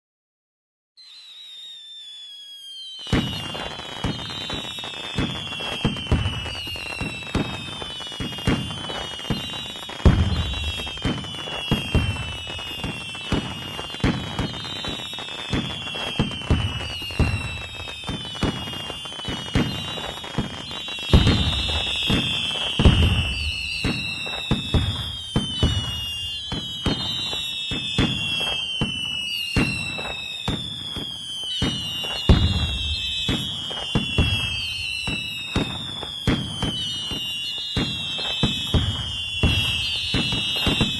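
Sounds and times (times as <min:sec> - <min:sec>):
falling firework whistles: 0:01.0 - 0:40.9
fireworks bangs and booms: 0:01.1 - 0:40.9.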